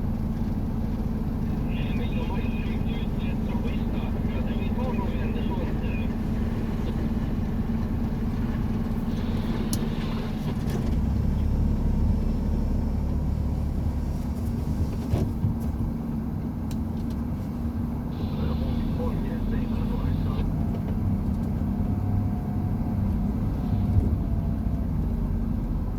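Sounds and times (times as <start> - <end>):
road noise: 0.0 - 25.9
truck engine drone: 0.0 - 25.9.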